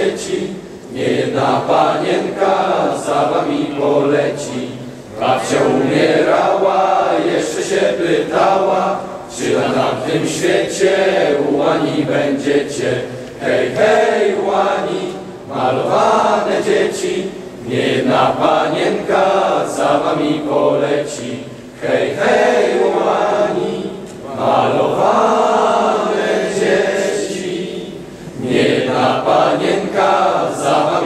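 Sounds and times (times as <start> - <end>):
group of voices singing: 0.0 - 31.0.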